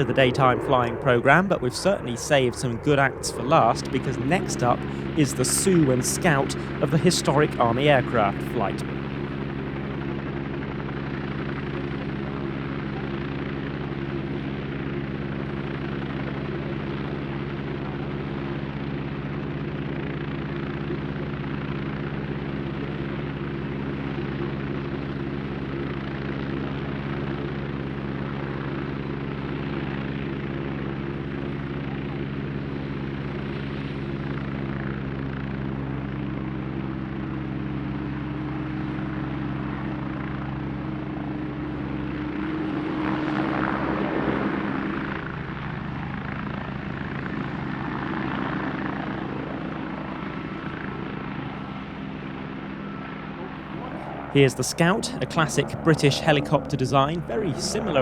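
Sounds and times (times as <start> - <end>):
helicopter flying: 0.0 - 58.0.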